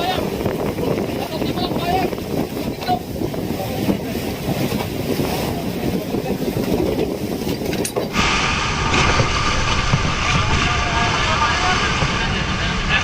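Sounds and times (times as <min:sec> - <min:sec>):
boat engine running: 0:00.0 - 0:13.0
wind and water noise: 0:00.0 - 0:13.0.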